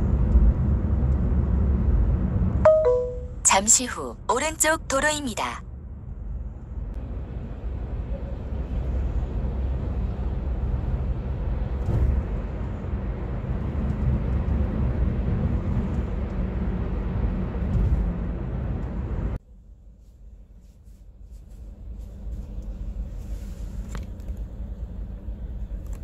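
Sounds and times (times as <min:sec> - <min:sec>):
road and tyre noise: 0:00.0 - 0:03.5, 0:05.6 - 0:26.0.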